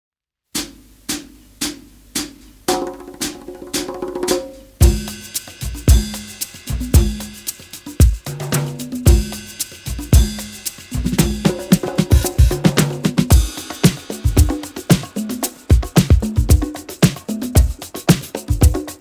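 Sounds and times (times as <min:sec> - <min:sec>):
drum kit beat: 0:00.6 - 0:19.0
heavy kick drums: 0:00.6 - 0:19.0.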